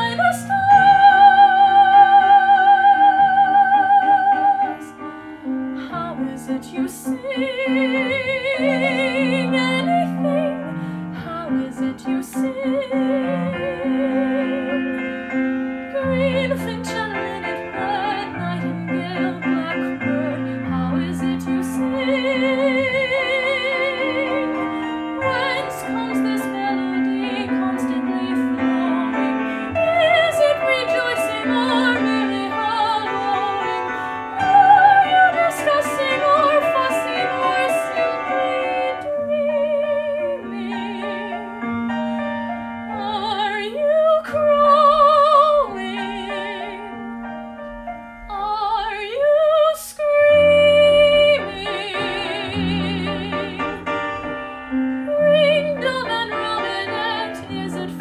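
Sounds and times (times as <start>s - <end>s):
woman singing soprano: 0.0s - 5.1s, 5.7s - 15.0s, 15.9s - 41.7s, 42.9s - 47.0s, 48.3s - 54.4s, 55.0s - 58.0s
piano accompaniment: 0.0s - 58.0s.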